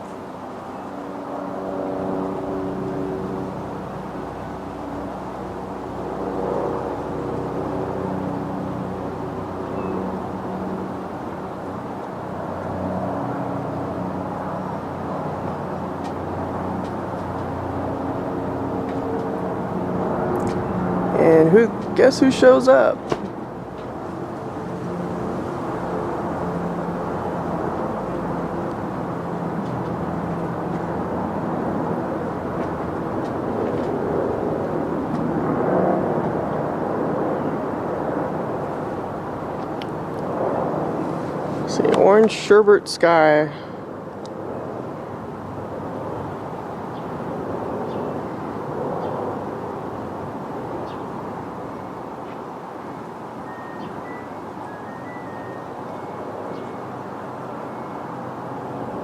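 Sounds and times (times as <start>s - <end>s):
helicopter drone: 0.0s - 59.0s.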